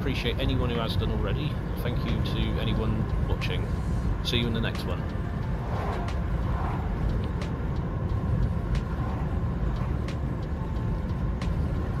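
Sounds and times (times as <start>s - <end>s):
engine and road noise rumble: 0.0s - 12.0s.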